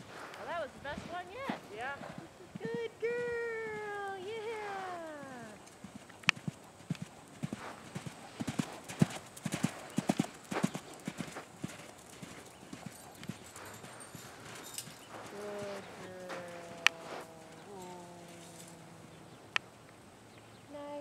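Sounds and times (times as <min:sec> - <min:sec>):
hoofbeats on sand: 0:00.0 - 0:19.0.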